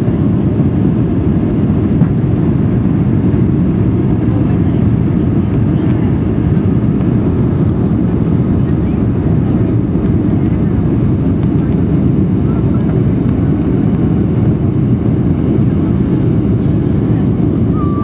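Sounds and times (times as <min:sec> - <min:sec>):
jet engine cabin rumble: 0:00.0 - 0:18.0.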